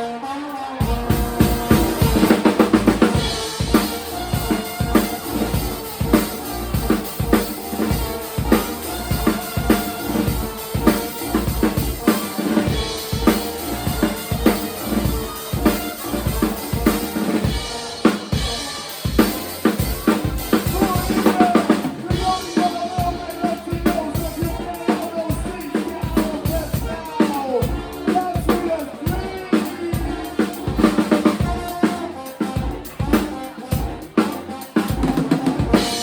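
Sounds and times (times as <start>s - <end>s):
live band playing: 0.0s - 36.0s
drum kit beat: 0.6s - 36.0s.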